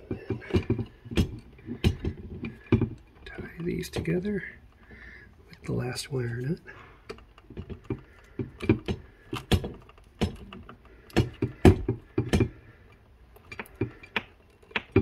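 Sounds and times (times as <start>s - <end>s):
wires being twisted clicking: 0.0s - 15.0s.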